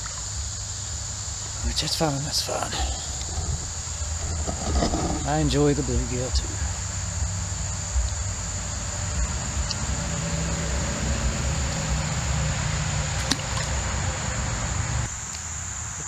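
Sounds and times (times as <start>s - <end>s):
high-pitched insect drone: 0.0s - 16.0s
low rumble and hiss: 0.0s - 16.0s.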